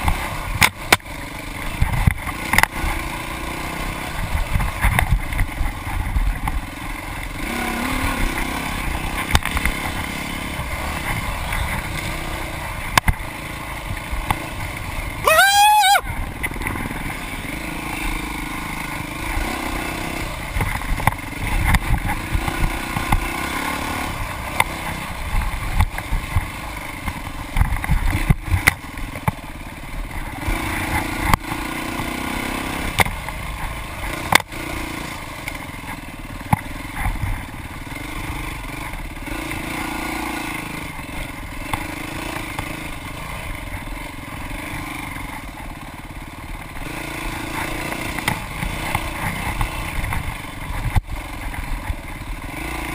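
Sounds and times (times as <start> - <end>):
dirt bike engine revving: 0.0 - 29.1, 29.7 - 35.4, 36.4 - 52.9.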